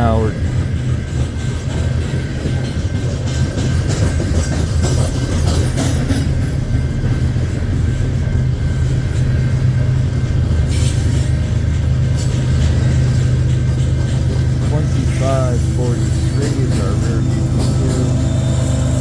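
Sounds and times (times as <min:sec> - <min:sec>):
diesel locomotive: 0:00.0 - 0:19.0
train rumbling: 0:00.0 - 0:19.0
wheels clicking over rail joints: 0:00.0 - 0:19.0.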